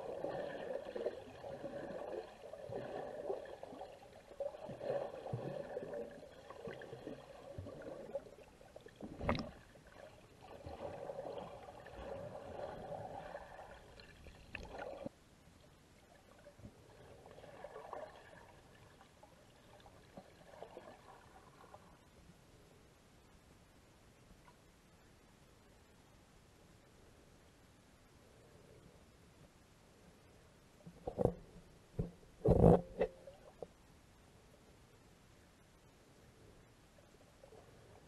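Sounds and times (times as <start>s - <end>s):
faint hiss: 3.2s - 32.5s, 33.1s - 38.0s.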